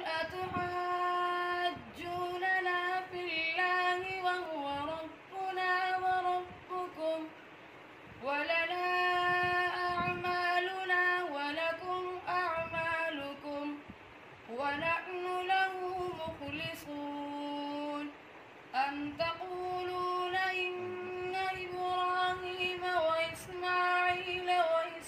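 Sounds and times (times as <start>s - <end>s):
boy reciting melodically: 0.0s - 7.4s, 8.1s - 25.0s.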